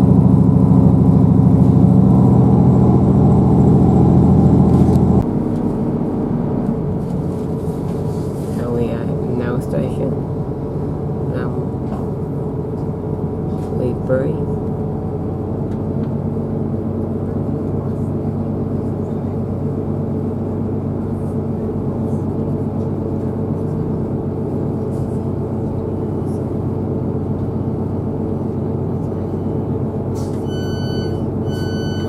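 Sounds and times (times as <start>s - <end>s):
train engine humming: 0.0s - 32.0s.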